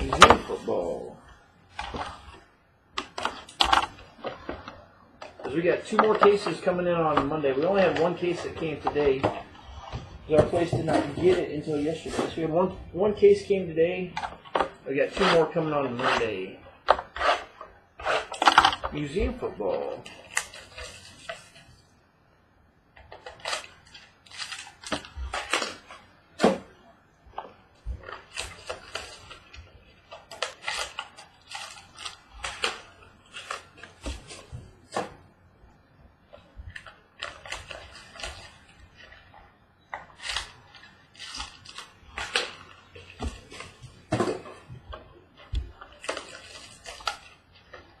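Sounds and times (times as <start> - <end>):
crinkling and rustling of wrapping: 0.0 - 22.1, 22.8 - 48.0.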